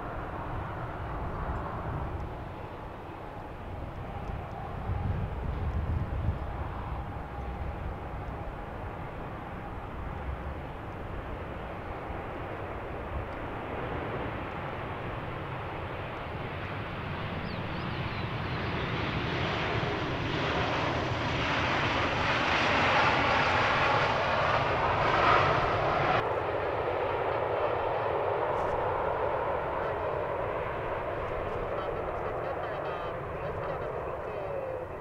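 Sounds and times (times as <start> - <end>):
jet engine whine: 0.0 - 35.0
jet engines running: 0.0 - 35.0.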